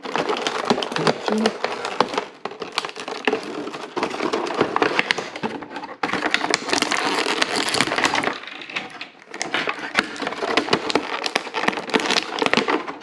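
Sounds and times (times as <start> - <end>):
hard plastic packaging crackling: 0.0 - 13.0.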